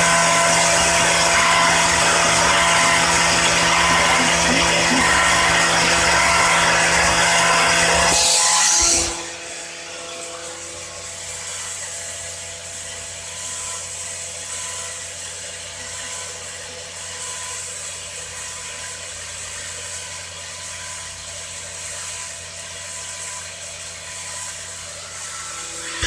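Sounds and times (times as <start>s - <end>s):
electric power tool running: 0.0s - 26.0s.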